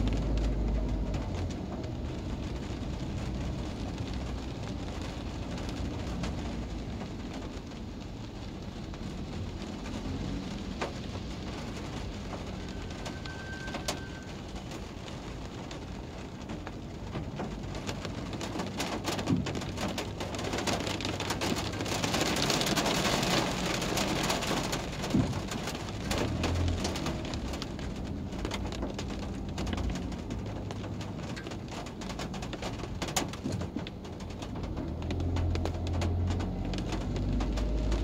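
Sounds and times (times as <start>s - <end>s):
rain pattering on car roof: 0.0s - 38.0s.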